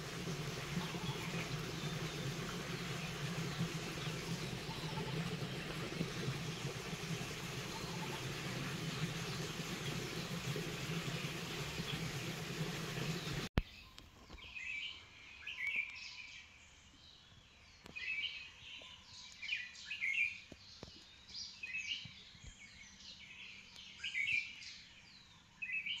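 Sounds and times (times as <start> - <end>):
songbird chirping: 0.0 - 26.0.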